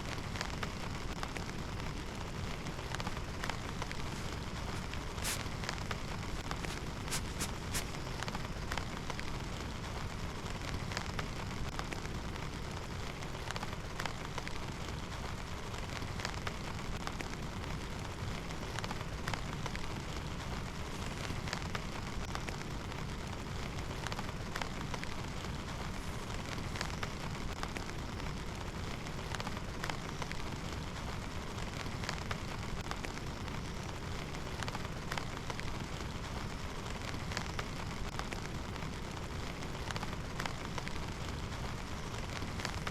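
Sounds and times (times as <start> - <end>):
heavy rain drops striking: 0.0 - 42.9.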